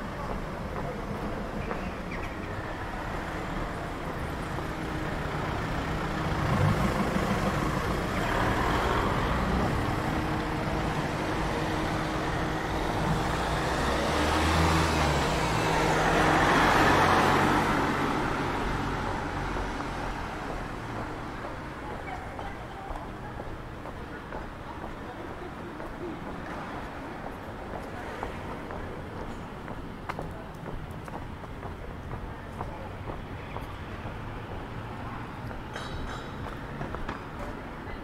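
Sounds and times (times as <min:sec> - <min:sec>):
cars and vans driving past: 0:00.0 - 0:38.0.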